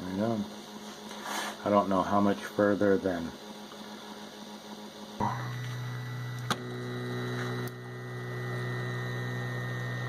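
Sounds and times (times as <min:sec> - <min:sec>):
printer motors humming: 0:00.0 - 0:10.0.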